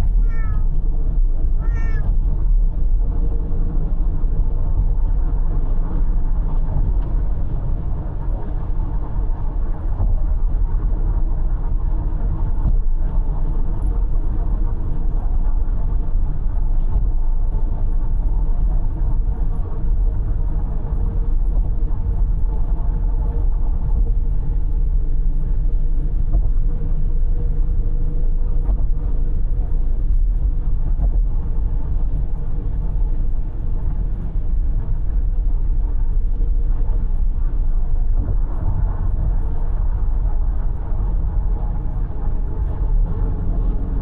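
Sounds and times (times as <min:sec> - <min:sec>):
car tyres and engine rumble: 0:00.0 - 0:44.0.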